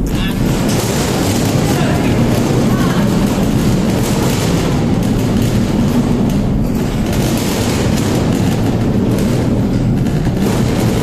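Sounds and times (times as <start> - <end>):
low rumble of ship machinery: 0.0 - 11.0.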